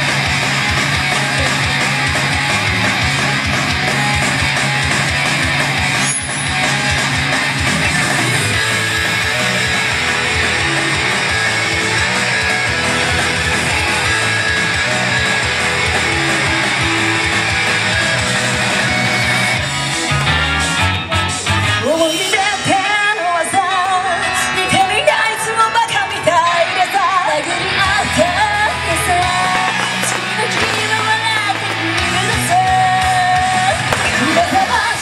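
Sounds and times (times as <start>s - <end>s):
rock music over speakers: 0.0s - 35.0s.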